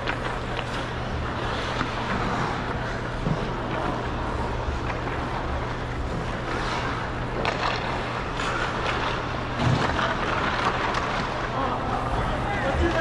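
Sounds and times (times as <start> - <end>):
skate blades scraping on ice: 0.0 - 11.5.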